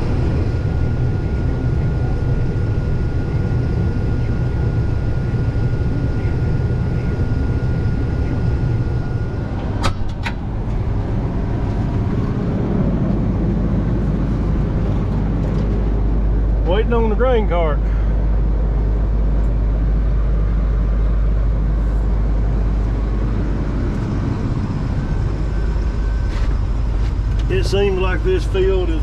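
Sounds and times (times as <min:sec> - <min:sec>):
combine engine and machinery droning: 0:00.0 - 0:29.0
thin steady whine: 0:00.0 - 0:29.0.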